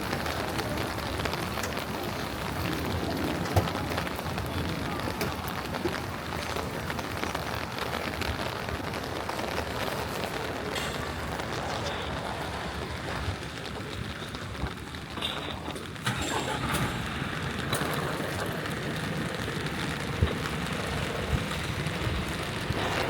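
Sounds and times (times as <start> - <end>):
rain falling on street: 0.0 - 23.0.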